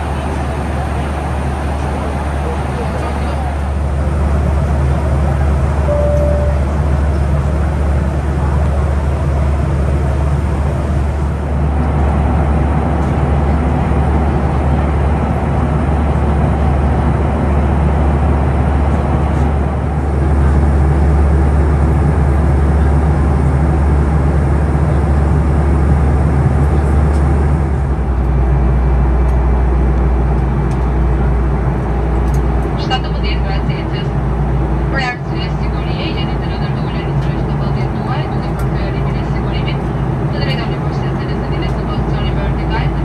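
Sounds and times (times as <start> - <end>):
airplane cabin engine rumble: 0.0 - 43.0.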